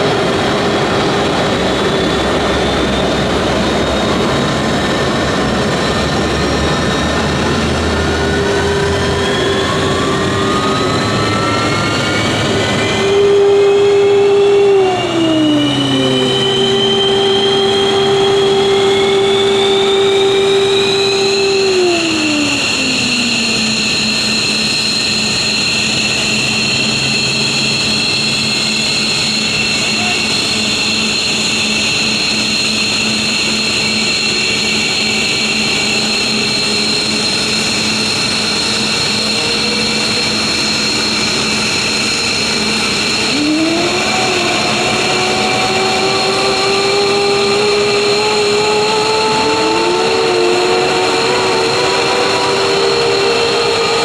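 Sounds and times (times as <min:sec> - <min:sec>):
jet turbine whine: 0:00.0 - 0:54.0.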